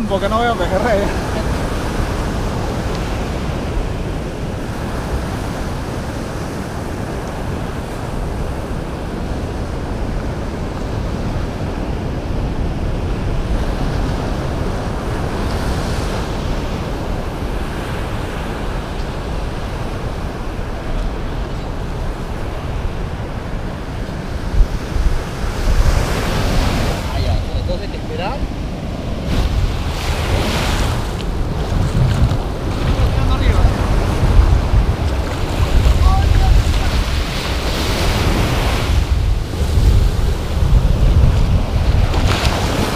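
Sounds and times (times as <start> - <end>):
ocean surf washing onto beach: 0.0 - 42.9
wind rumbling on microphone: 0.0 - 42.9.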